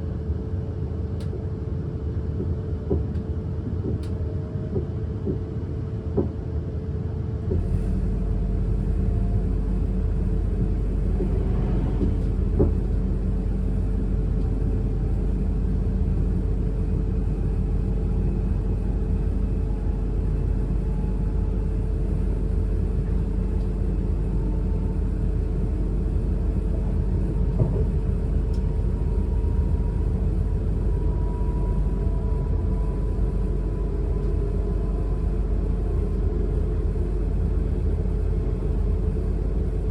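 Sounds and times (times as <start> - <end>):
train rumble from on board: 0.0 - 39.9.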